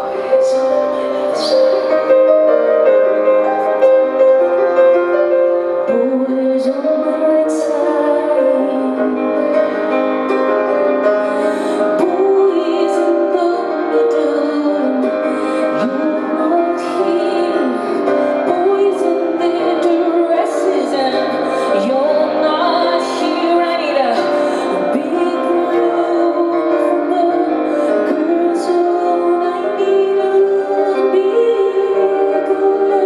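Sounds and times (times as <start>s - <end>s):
woman singing: 0.0s - 3.4s, 5.2s - 10.3s, 11.0s - 33.0s
instrumental accompaniment: 0.0s - 33.0s.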